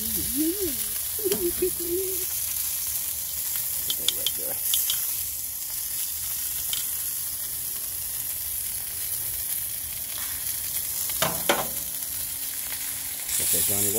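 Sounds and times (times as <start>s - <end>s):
meat sizzling on grill: 0.0s - 13.9s.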